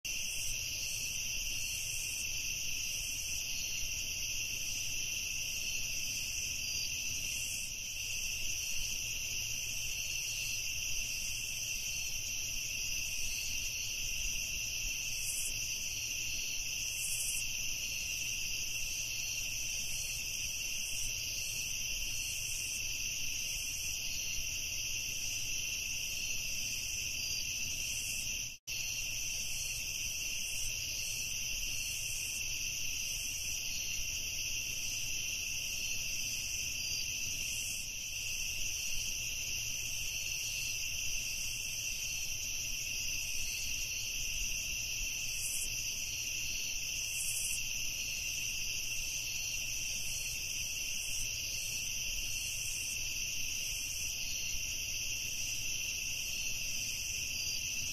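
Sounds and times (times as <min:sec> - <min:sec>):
crickets chirping: 0:00.1 - 0:57.9.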